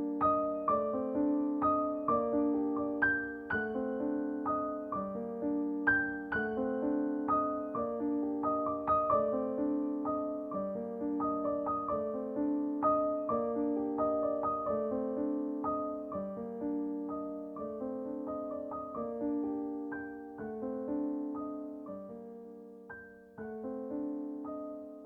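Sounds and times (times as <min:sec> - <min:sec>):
solo piano notes: 0:00.0 - 0:25.0.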